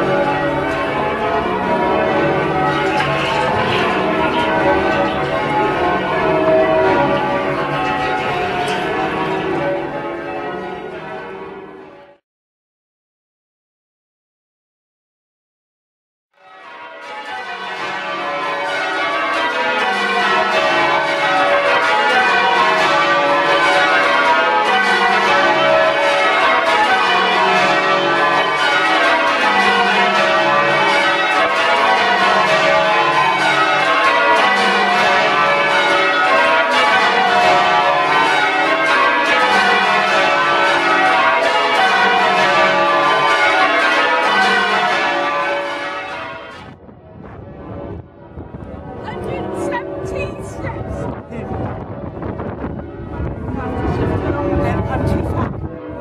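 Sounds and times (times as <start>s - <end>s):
church bells ringing changes: 0.0s - 12.2s, 16.4s - 56.0s.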